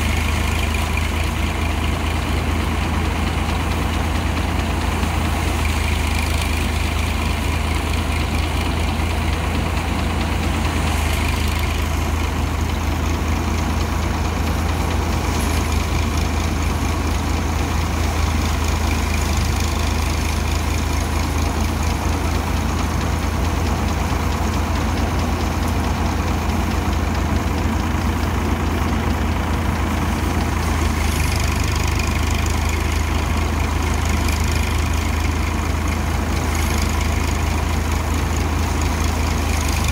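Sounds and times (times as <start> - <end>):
threshing machine engine droning: 0.0 - 39.9.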